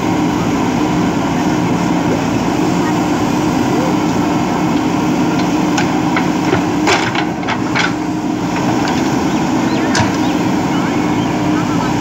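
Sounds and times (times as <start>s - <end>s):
diesel engine under load: 0.0s - 12.0s.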